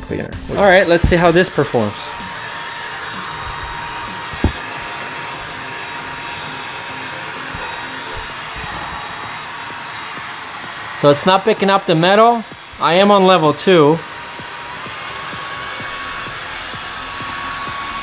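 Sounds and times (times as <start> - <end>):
stick vacuum whining: 0.0 - 18.0.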